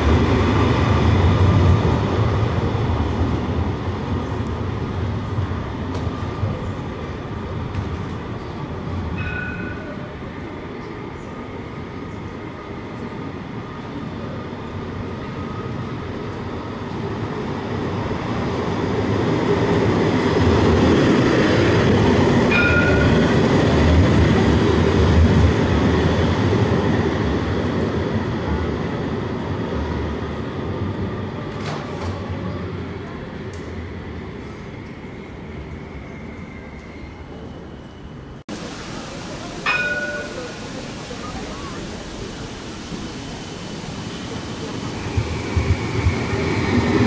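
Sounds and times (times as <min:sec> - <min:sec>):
tram wheels rumbling on rail: 0:00.0 - 0:47.0.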